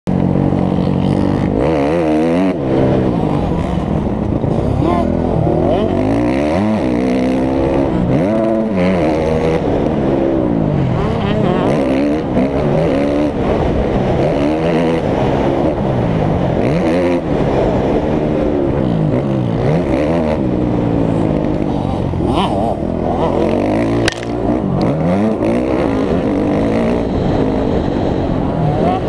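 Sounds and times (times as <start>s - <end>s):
dirt bike engine revving: 0.2s - 15.6s, 18.7s - 29.0s.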